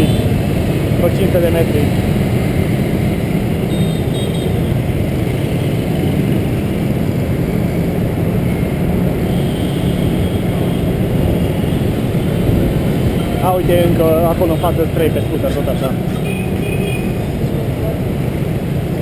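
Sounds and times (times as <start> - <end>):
motorbike traffic: 0.0 - 19.0.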